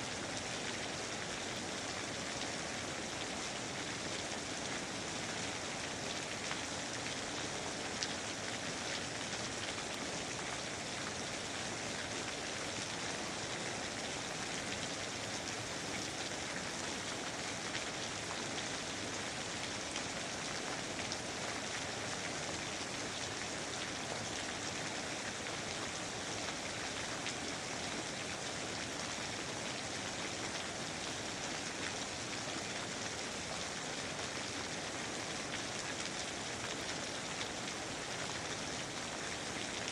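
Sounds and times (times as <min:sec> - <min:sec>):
rain pattering on foliage: 0:00.1 - 0:39.9.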